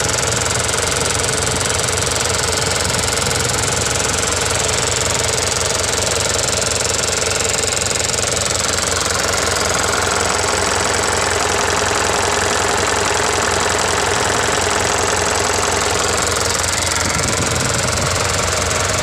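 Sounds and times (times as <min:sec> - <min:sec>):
diesel engine turning over: 0:00.0 - 0:19.0.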